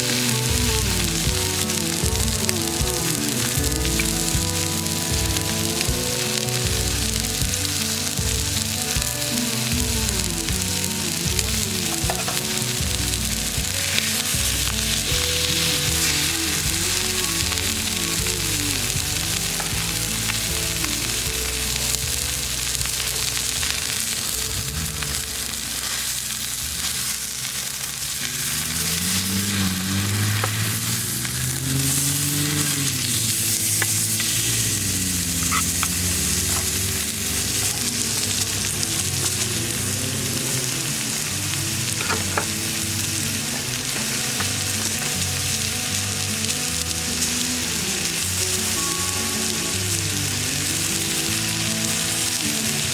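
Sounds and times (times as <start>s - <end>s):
steak sizzling in a pan: 0.0s - 52.9s.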